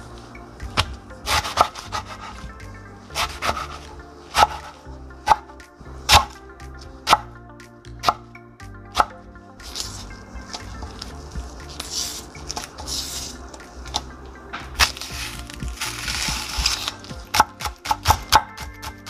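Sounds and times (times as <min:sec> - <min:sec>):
instrumental music with held chords: 0:00.0 - 0:19.0.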